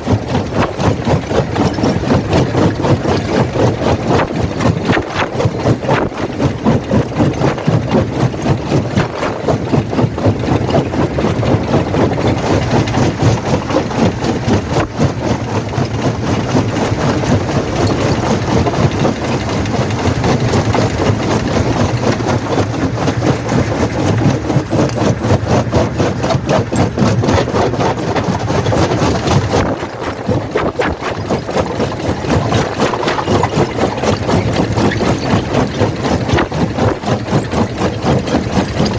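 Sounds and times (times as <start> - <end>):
jaw crusher machine drone: 0.0 - 38.9
rapid clattering: 0.0 - 38.9.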